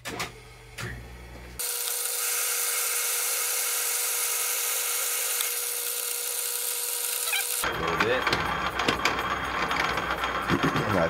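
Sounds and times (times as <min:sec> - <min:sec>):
metal lathe running: 0:01.6 - 0:11.0.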